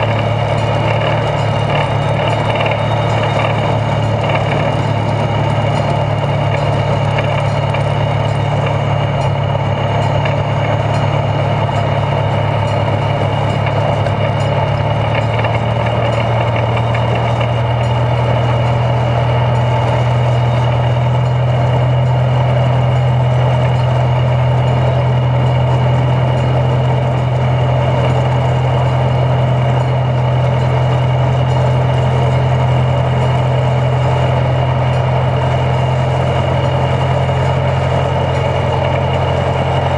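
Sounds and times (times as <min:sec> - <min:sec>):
locomotive engine droning: 0:00.0 - 0:39.9
thin high gear whine: 0:00.0 - 0:39.9.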